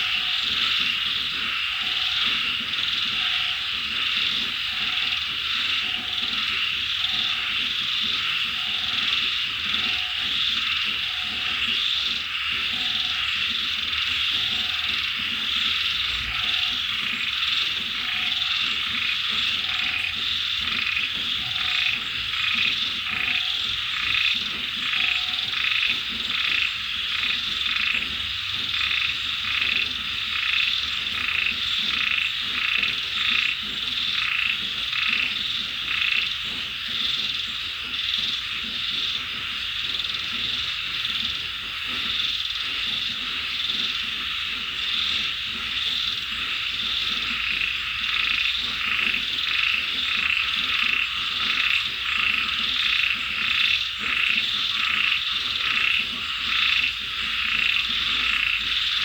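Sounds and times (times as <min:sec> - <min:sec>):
frogs croaking: 0:00.0 - 0:59.0.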